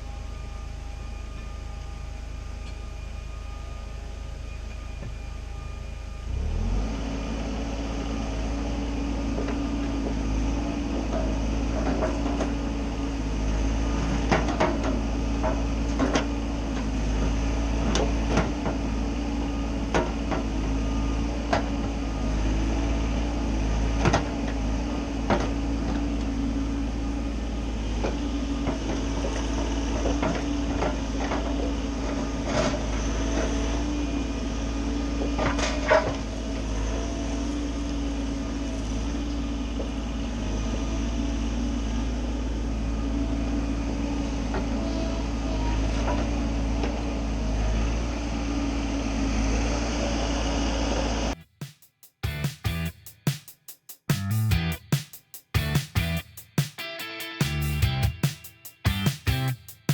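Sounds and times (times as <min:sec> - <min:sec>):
excavator engine running: 0:00.0 - 0:51.5, 0:52.2 - 0:53.3, 0:54.1 - 0:59.9.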